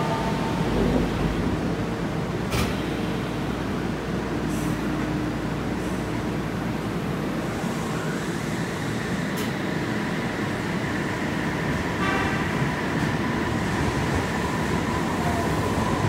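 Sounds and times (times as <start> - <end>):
train rumble with faint whine: 0.0 - 16.0.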